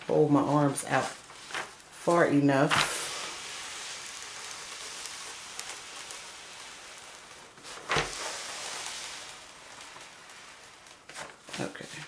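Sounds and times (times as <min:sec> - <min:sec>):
canvas and plastic film rustling: 0:00.0 - 0:12.0.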